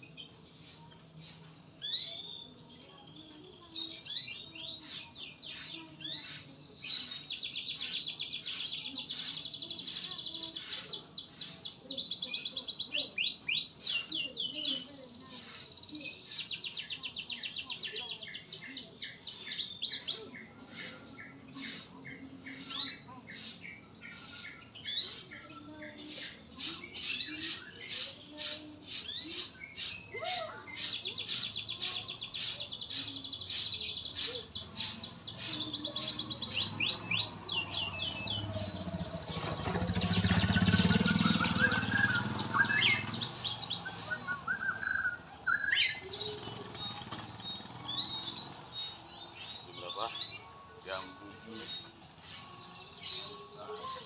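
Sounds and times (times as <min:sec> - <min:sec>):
bird singing chirps and whistles: 0:00.0 - 0:02.5, 0:03.7 - 0:21.0, 0:21.6 - 0:54.0.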